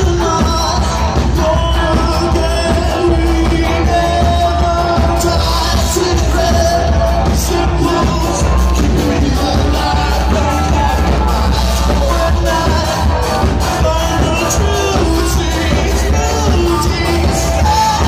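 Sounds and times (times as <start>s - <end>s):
live rock band playing: 0.0s - 18.0s
person singing: 0.0s - 18.0s.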